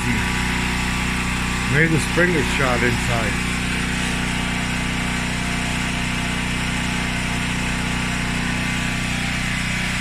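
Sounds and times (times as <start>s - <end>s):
washing machine humming and spinning: 0.0s - 10.0s.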